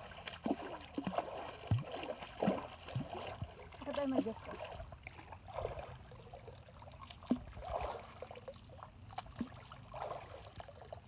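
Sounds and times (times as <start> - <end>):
river water splashing: 0.0 - 10.9.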